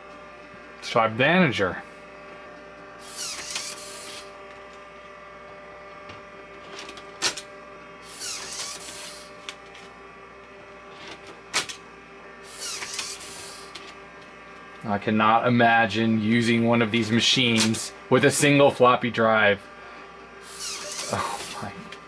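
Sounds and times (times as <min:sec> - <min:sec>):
floppy drive whirring: 0:00.0 - 0:22.0
steady electrical hum: 0:00.0 - 0:22.0.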